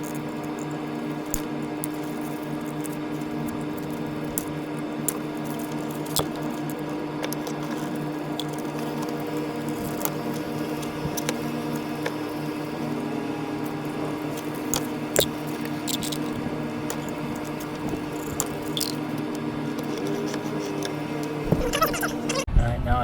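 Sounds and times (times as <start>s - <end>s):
hands clicking and tapping wiring: 0.0s - 13.0s, 13.6s - 22.4s
steady low hum: 0.0s - 23.0s.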